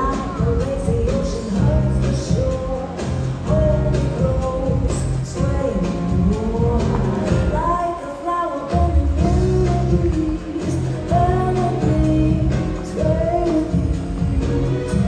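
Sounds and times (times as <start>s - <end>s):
song with vocals over a steady beat: 0.0s - 15.0s.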